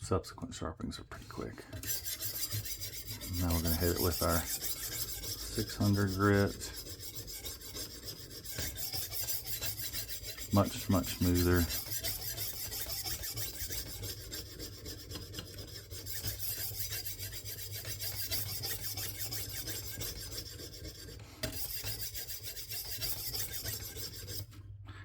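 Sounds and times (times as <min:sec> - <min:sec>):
sharpening stone rasping on knife: 0:01.8 - 0:24.5.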